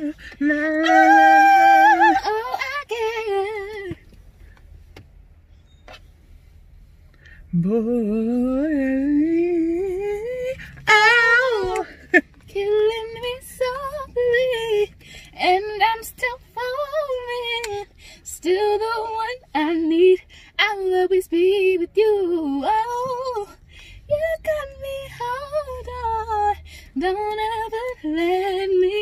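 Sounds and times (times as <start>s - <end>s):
woman singing: 0.0s - 4.0s, 7.5s - 29.0s.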